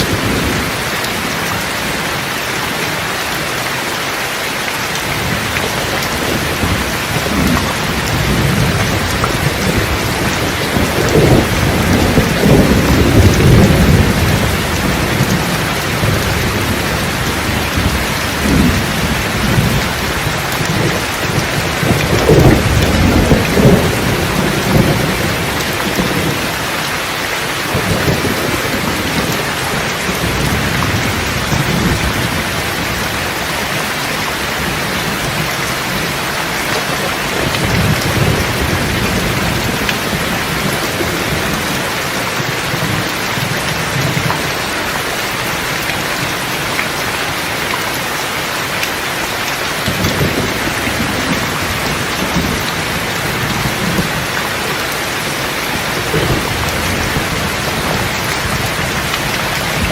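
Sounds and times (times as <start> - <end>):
steady rain: 0.0 - 59.9
rolling thunder: 5.0 - 44.7, 49.8 - 59.9.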